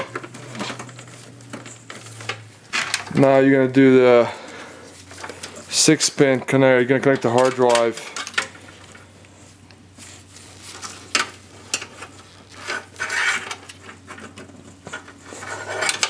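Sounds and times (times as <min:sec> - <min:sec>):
cables rustling against metal case: 0:00.0 - 0:03.4, 0:04.2 - 0:16.0.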